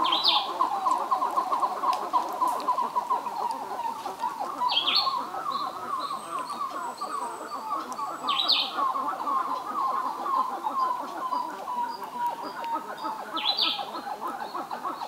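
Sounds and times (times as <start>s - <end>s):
birds chirping: 0.0s - 15.0s
high bird calls: 0.0s - 15.0s.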